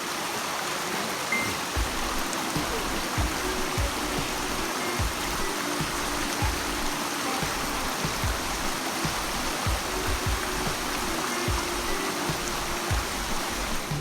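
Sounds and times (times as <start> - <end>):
faint background music: 0.0 - 14.0
rushing water: 0.0 - 14.0.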